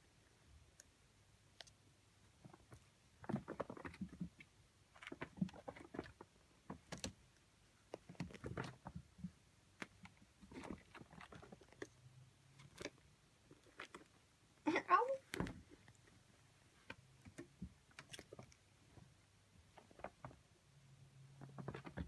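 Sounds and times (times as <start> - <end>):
kittens scuffling and rustling: 2.2 - 14.4, 15.1 - 22.0.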